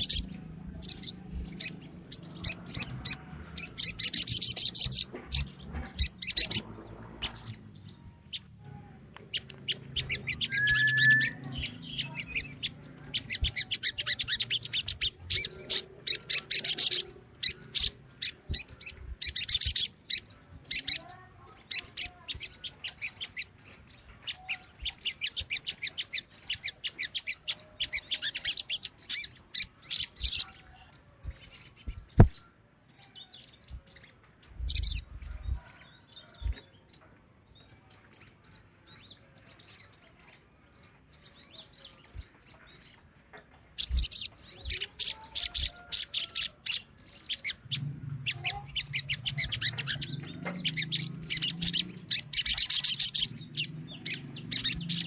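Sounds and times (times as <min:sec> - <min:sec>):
flock of birds chattering: 0:00.0 - 0:55.0.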